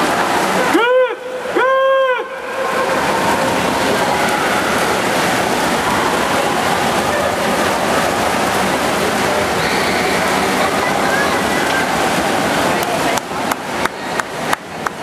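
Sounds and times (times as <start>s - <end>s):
spectators' voices: 0.0s - 15.0s
swimmers splashing: 0.0s - 15.0s.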